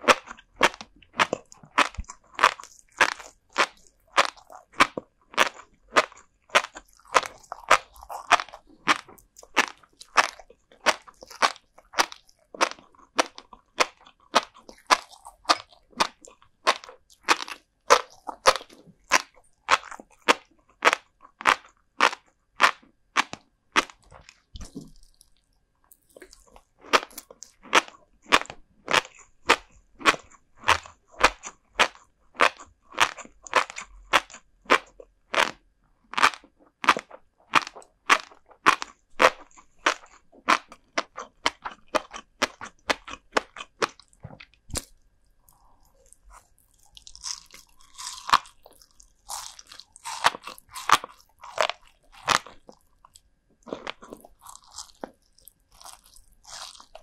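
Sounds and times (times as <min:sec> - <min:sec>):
close chewing crunches: 0:00.0 - 0:57.0.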